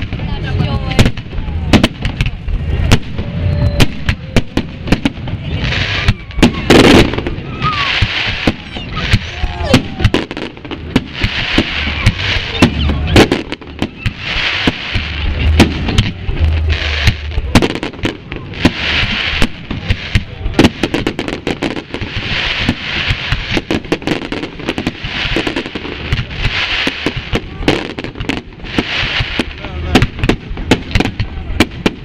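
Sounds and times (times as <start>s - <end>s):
deep fireworks booms: 0.0s - 32.0s
fireworks bangs: 0.0s - 32.0s.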